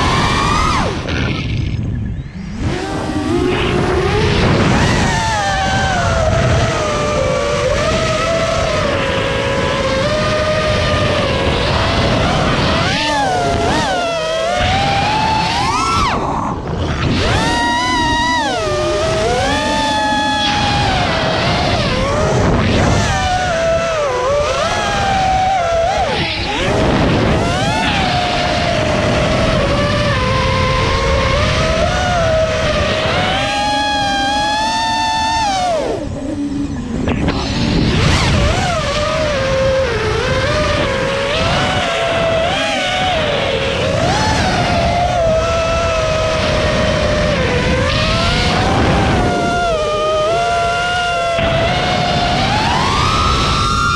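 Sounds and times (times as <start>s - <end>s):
drone motors whining: 0.0s - 53.9s
rush of wind: 0.0s - 53.9s.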